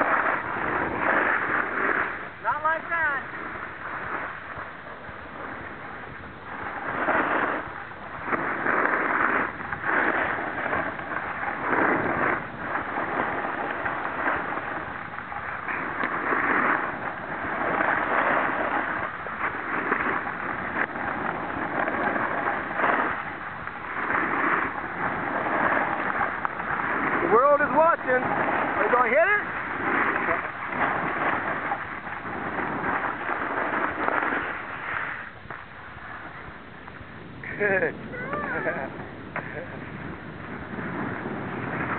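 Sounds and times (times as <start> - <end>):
snowboard scraping on snow: 0.0 - 41.9.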